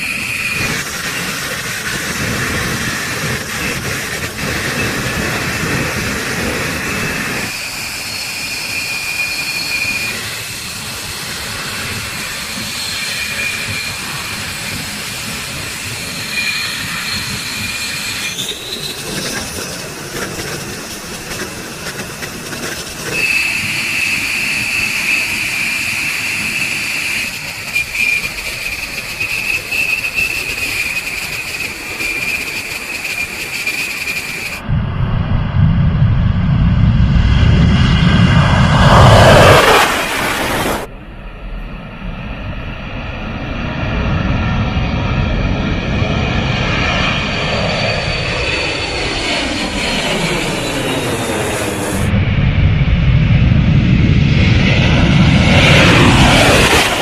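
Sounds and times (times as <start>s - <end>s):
jet turbine whine: 0.0s - 57.0s.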